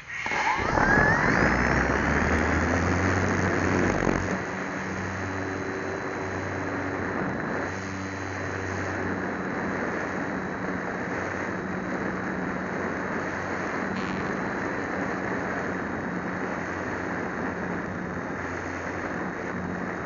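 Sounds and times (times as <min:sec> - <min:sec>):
model airplane motor and propeller: 0:00.0 - 0:20.0
wind rush: 0:00.0 - 0:20.0.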